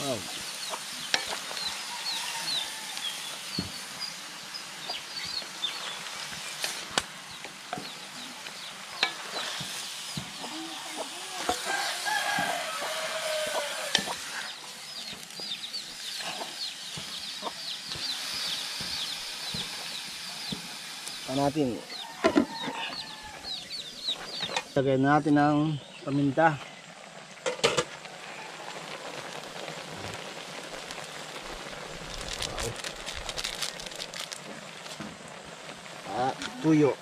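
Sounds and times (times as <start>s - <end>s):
soft sizzle: 0.0s - 37.0s.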